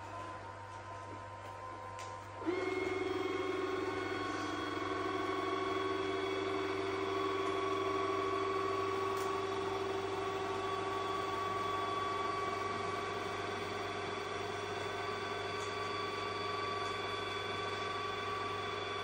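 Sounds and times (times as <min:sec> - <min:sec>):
robot vacuum motor hum: 0:02.4 - 0:19.0.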